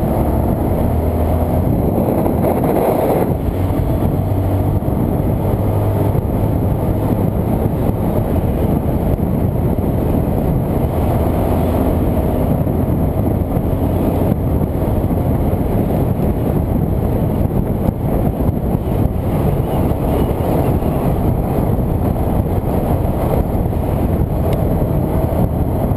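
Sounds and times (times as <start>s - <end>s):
motorcycle engine drone: 0.0s - 25.9s
wind rush on microphone: 0.0s - 25.9s.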